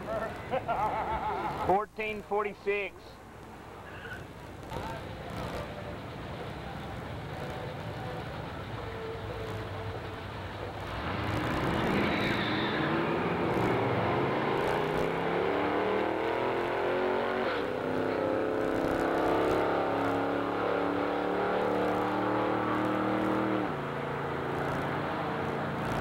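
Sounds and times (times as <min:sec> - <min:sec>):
van engine at full throttle: 0:03.6 - 0:26.0.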